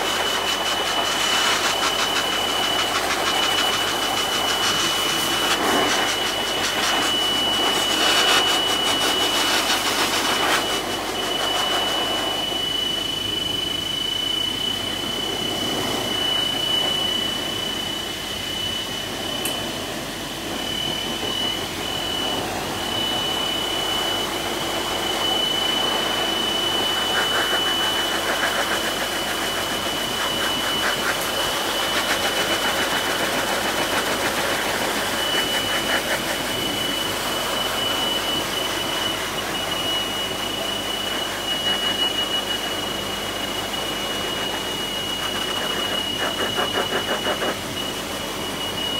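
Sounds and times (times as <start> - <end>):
pet dryer blowing air: 0.0 - 48.9.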